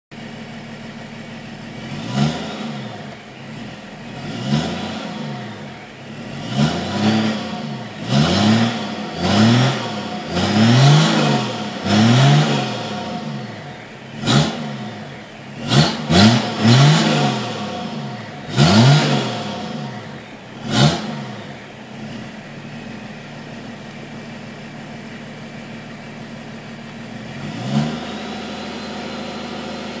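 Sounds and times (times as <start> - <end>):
diesel engine revving: 0.1 - 30.0.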